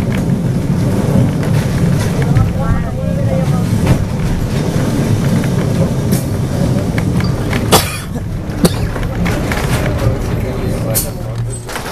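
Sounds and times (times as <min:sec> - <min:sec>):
tram wheels and motor rumbling: 0:00.0 - 0:11.9.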